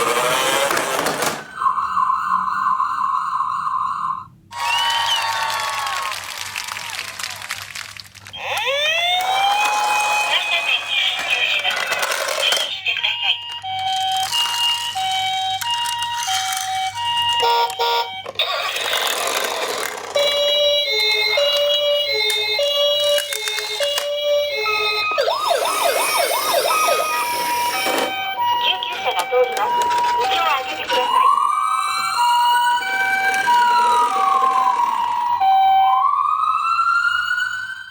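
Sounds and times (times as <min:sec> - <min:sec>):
toy two-tone siren: 0:00.0 - 0:05.3, 0:08.4 - 0:37.9.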